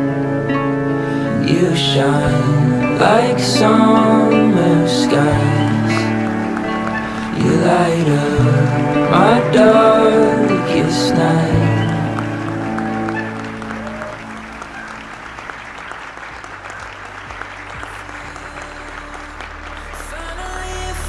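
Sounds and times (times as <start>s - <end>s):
held chord of a song: 0.0s - 21.0s
guests applauding: 3.6s - 21.0s.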